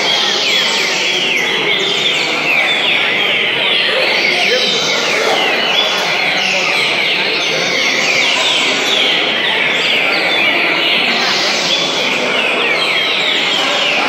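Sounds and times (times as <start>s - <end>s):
birds singing in chorus: 0.0s - 14.0s
steady background din: 0.0s - 14.0s.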